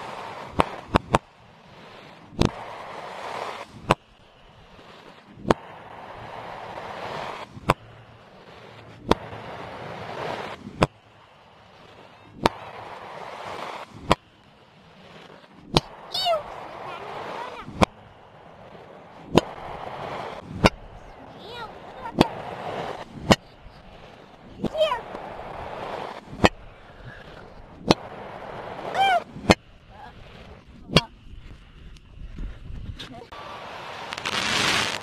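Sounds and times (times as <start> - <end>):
reversed fireworks crackling hiss: 0.0 - 35.0.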